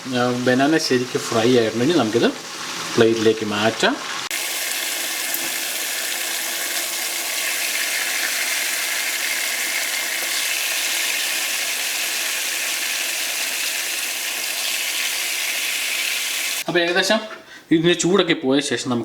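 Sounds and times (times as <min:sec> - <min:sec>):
bananas sizzling in hot oil: 0:00.0 - 0:16.7.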